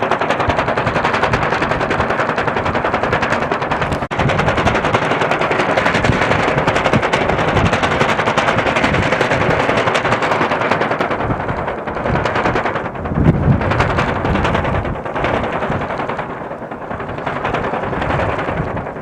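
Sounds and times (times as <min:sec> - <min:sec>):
fast rattling flutter: 0:00.0 - 0:19.0
low wind gust: 0:00.0 - 0:19.0
strong wind: 0:00.0 - 0:19.0.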